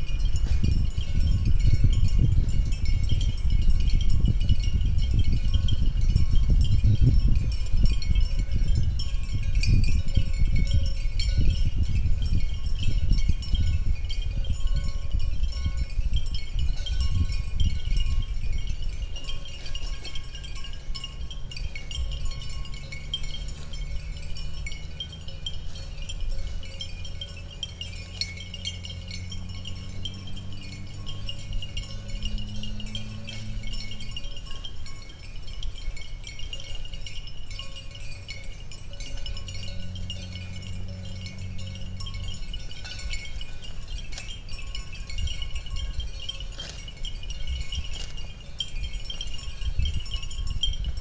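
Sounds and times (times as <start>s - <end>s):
light chiming tones: 0.0s - 51.0s.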